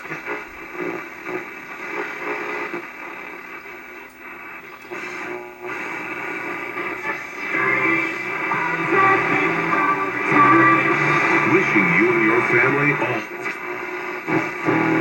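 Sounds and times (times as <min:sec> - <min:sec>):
faint radio station audio: 0:00.0 - 0:15.0
radio static: 0:00.0 - 0:15.0.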